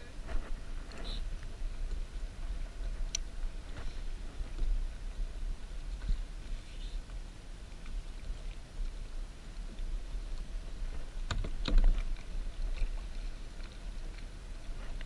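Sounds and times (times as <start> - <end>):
wind rumbling on microphone: 0.0 - 15.0
water and handling noises: 0.2 - 15.0.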